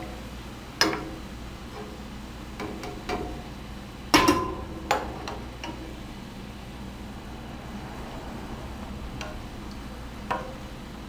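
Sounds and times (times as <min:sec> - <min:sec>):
hot frying oil hissing: 0:00.0 - 0:11.0.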